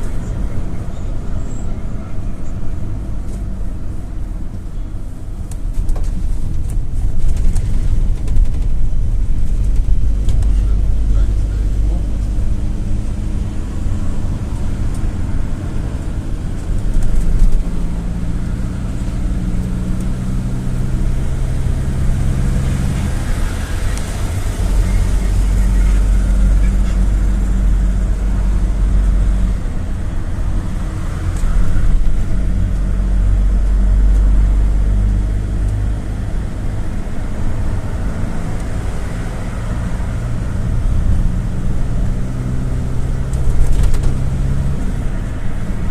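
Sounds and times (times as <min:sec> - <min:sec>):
minibus engine hum: 0:00.0 - 0:45.9
road and tyre noise: 0:00.0 - 0:45.9.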